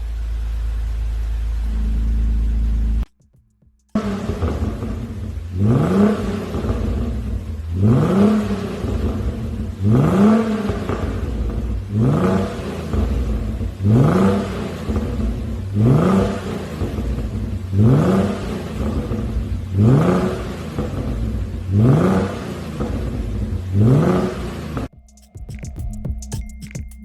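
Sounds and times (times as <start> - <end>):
car engine revving: 0.0 - 3.1, 3.8 - 24.9.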